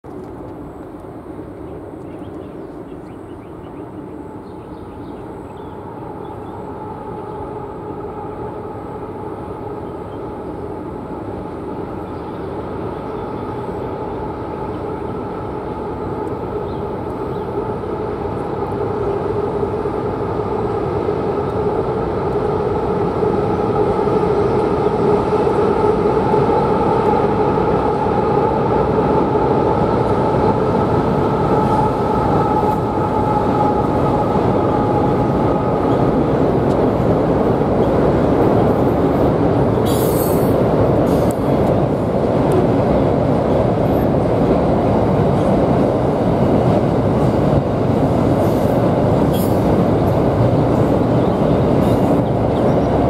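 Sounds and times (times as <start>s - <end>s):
diesel locomotives rumbling: 0.0s - 53.0s.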